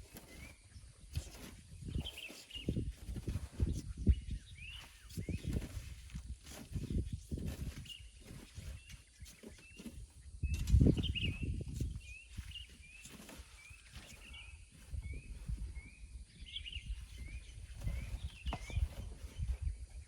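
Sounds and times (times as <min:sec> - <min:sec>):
bird chirping: 0:00.1 - 0:07.0, 0:07.7 - 0:20.0.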